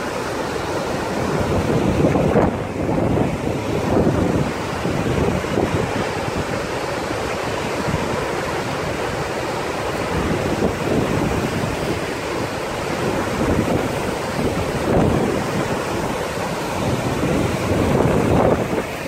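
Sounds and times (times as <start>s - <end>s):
waterfall rushing: 0.0s - 19.0s
wind buffeting microphone: 0.7s - 19.0s.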